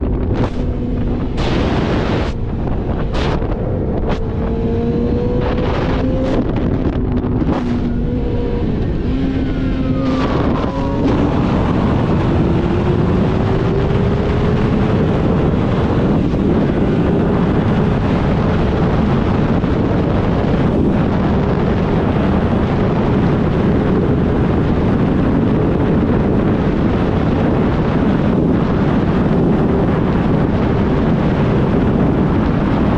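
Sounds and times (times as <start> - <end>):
motorcycle engine: 0.0 - 32.9
wind rushing over microphone: 0.0 - 32.9.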